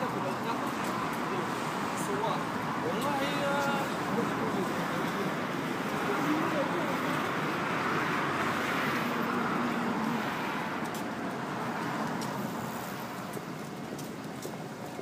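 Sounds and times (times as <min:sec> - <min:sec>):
steady traffic noise: 0:00.0 - 0:15.0
vehicle passing: 0:00.0 - 0:15.0.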